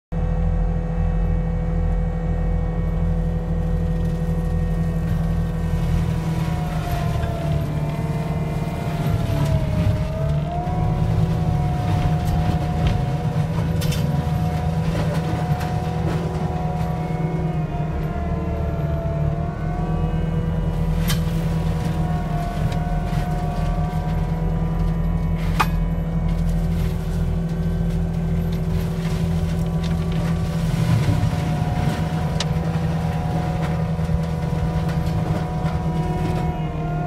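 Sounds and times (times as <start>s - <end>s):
mulcher engine drone with whine: 0.1s - 37.0s.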